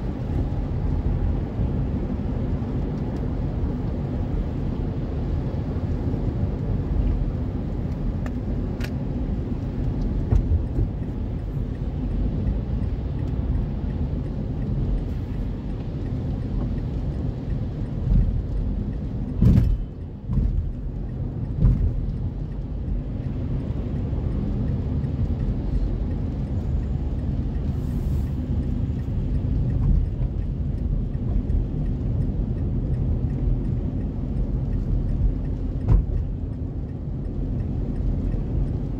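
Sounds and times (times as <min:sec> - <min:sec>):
car engine: 0:00.0 - 0:38.9
tyre and road noise: 0:00.0 - 0:38.9.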